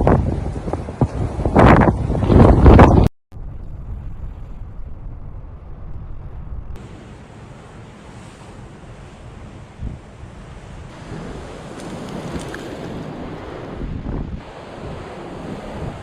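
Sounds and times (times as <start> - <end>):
low rumble of wind: 0.0 - 16.0
strong wind buffeting microphone: 0.0 - 16.0.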